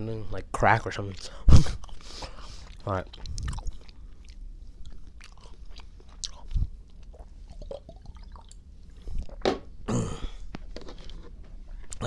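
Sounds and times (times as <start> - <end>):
chewing gummies: 1.0 - 9.4, 10.7 - 12.0.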